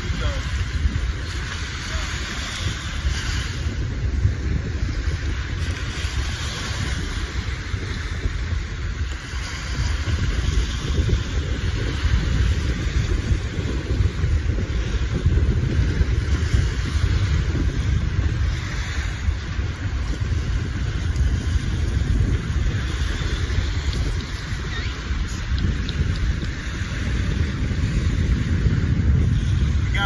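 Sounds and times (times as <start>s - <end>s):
small waves washing on beach: 0.0s - 30.0s
wind buffeting microphone: 0.0s - 30.0s.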